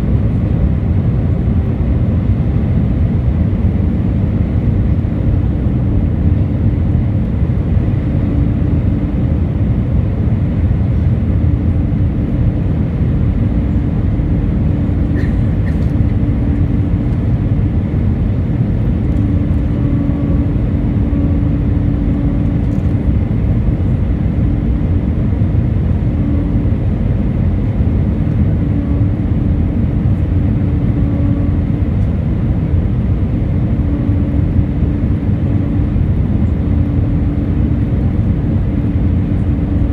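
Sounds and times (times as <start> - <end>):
aircraft cabin engine rumble: 0.0 - 39.9
low hum: 0.0 - 39.9.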